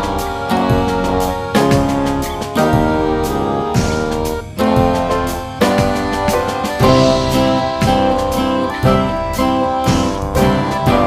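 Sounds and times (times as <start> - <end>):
plucked guitar notes: 0.0 - 11.0
steady beat: 0.0 - 11.0.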